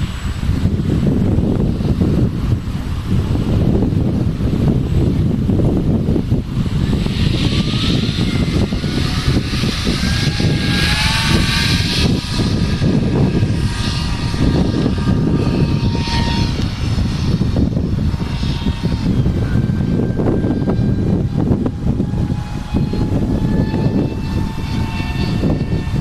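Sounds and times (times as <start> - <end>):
model jet motor whining: 0.0 - 26.0
wind rumble on microphone: 0.0 - 26.0.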